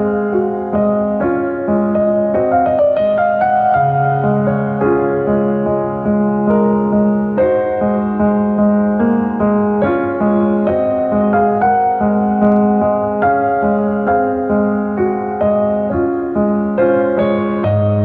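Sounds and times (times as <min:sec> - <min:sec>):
slow gentle solo piano: 0:00.0 - 0:18.0.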